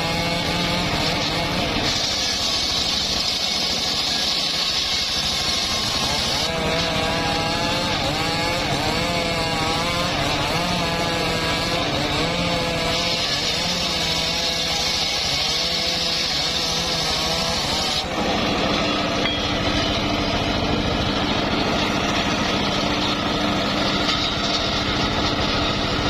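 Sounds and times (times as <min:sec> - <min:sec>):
saw blade hissing through wood: 0:00.0 - 0:21.1
sawmill engine running under load: 0:00.0 - 0:26.0.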